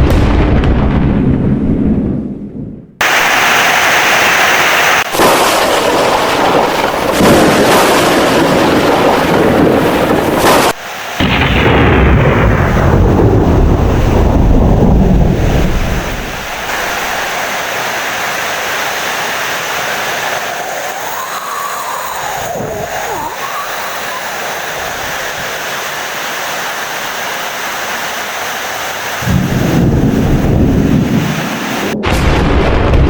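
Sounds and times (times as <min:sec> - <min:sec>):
thunder rumbling: 0:00.0 - 0:25.9, 0:29.0 - 0:33.0
heavy rain: 0:03.0 - 0:32.0.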